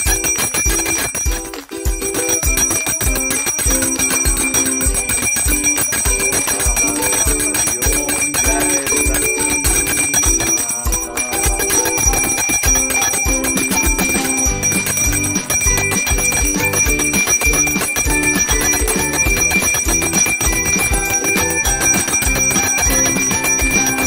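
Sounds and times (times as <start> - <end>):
hand bell ringing: 0.0 - 24.0.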